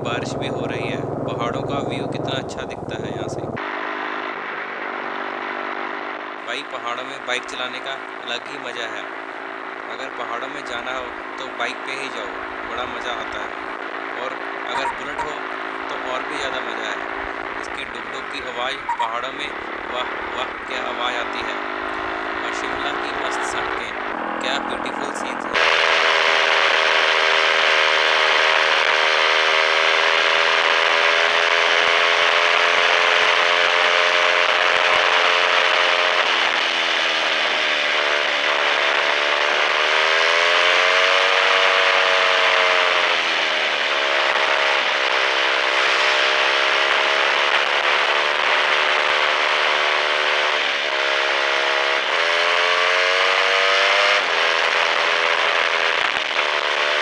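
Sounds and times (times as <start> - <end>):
motorcycle engine running: 0.0 - 6.5, 10.6 - 57.0
wind and road noise: 0.0 - 10.0, 10.8 - 57.0.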